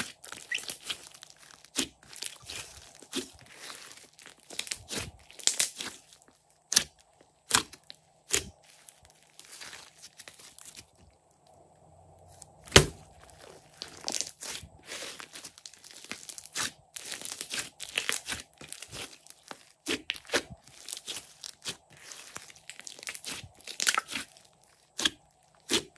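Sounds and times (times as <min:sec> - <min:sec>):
slime being kneaded by hand: 0:00.0 - 0:11.1, 0:12.3 - 0:25.9.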